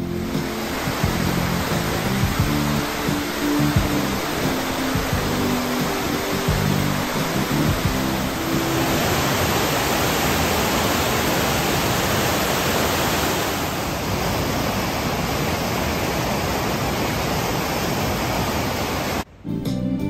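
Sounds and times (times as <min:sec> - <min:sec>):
water rushing over a weir: 0:00.0 - 0:19.2.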